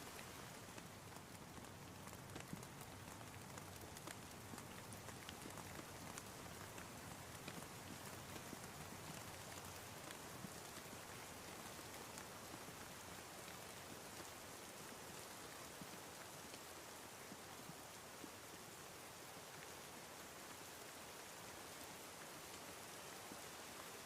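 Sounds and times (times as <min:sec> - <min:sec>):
soft steady rain: 0:00.0 - 0:24.0.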